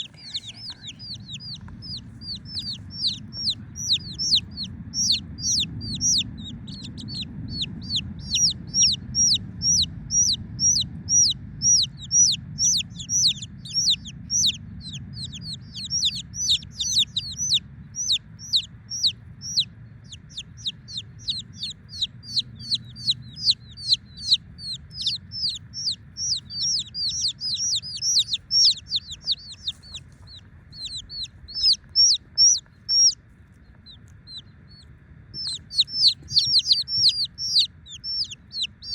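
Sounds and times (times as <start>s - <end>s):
baby chicks peeping: 0.0s - 38.9s
low hum: 0.0s - 38.9s.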